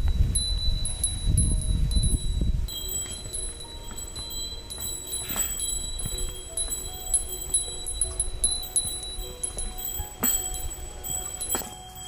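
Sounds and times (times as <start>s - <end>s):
chime-like bell tones music: 0.0s - 12.0s.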